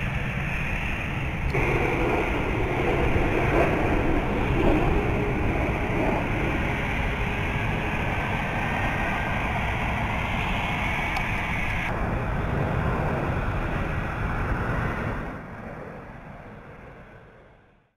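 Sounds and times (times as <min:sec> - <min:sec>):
jet engines roaring at takeoff: 0:00.0 - 0:17.9.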